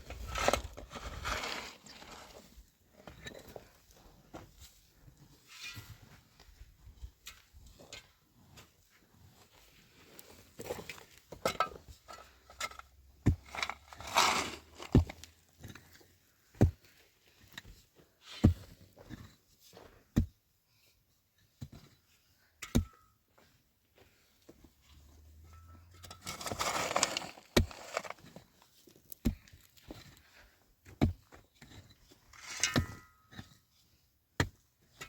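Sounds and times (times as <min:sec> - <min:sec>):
rustling and scraping: 0:00.0 - 0:20.1, 0:24.8 - 0:33.6.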